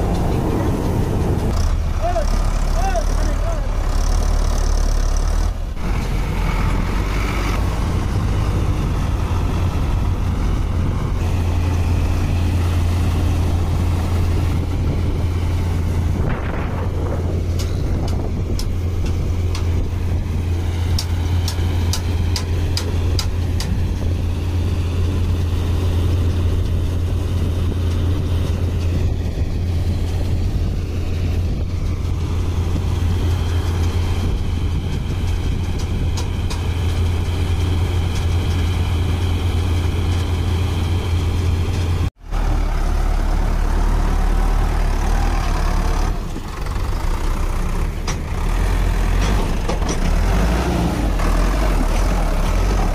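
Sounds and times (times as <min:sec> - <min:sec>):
diesel engines droning: 0:00.0 - 0:52.9
tractor driving in mud: 0:00.0 - 0:52.9.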